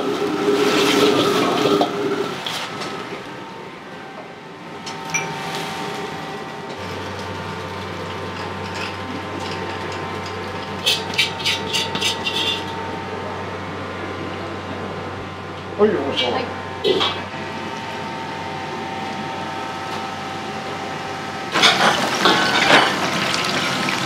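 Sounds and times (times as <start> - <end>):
wok burners and extraction hum: 0.0 - 24.0.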